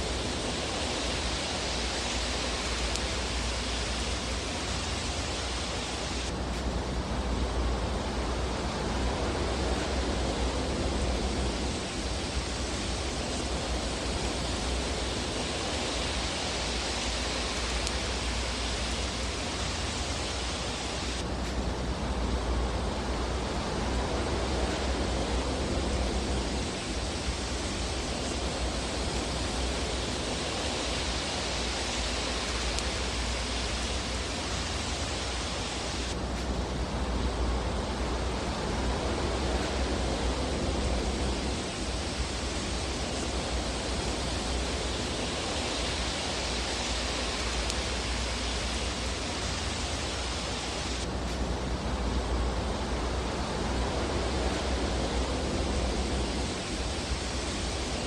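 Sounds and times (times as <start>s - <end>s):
fire burning in fireplace: 0.0s - 58.0s.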